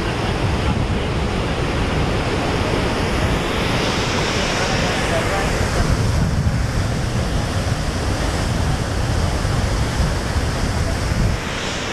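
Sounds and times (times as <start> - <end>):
waterfall roaring: 0.0 - 11.9
wind buffeting microphone: 0.0 - 11.9.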